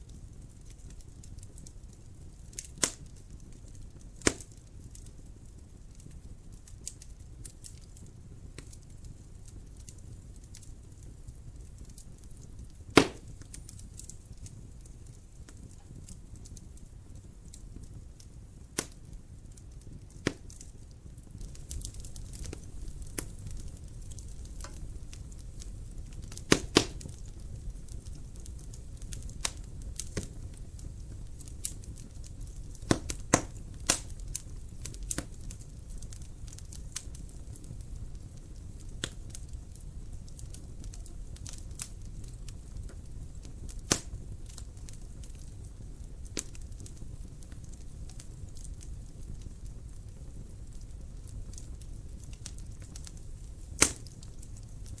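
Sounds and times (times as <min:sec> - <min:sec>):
low steady fire rumble: 0:00.0 - 0:55.0
wood fire crackling: 0:00.0 - 0:55.0.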